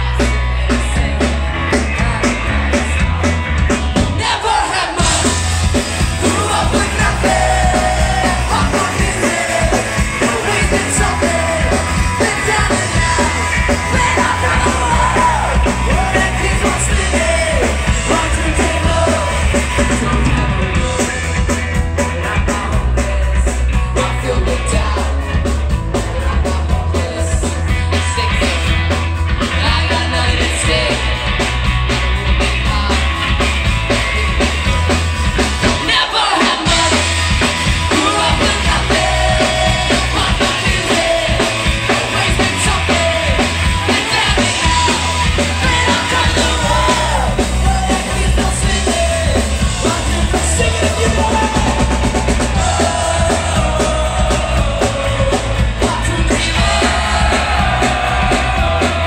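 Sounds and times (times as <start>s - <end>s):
bass guitar: 0.0s - 59.0s
drums: 0.0s - 59.0s
electric guitar: 0.0s - 59.0s
person singing into a microphone: 6.2s - 28.8s, 29.5s - 31.4s, 35.7s - 59.0s.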